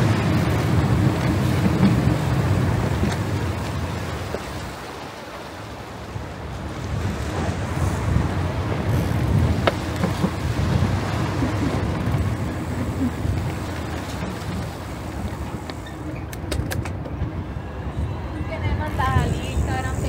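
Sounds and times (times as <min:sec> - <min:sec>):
traffic rumble: 0:00.0 - 0:20.0
wind buffeting microphone: 0:00.0 - 0:20.0.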